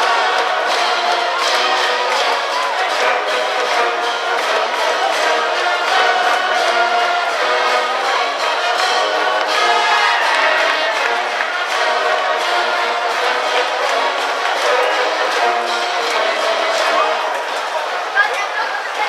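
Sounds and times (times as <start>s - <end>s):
brass band playing: 0.0s - 18.7s
trombones holding sustained notes: 0.0s - 18.8s
crowd singing along: 0.0s - 19.0s.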